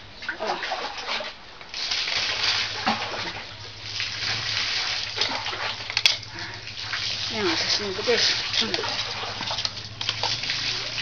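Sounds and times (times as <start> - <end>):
water sloshing in metal pot: 0.0 - 11.0.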